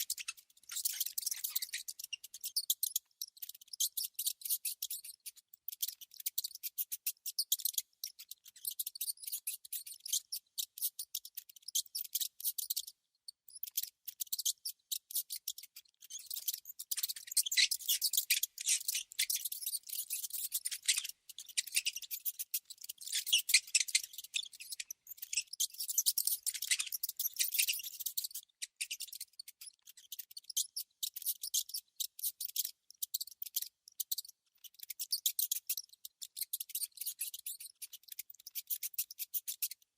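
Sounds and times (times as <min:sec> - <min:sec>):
rodent clicking chatter: 0:00.0 - 0:39.9.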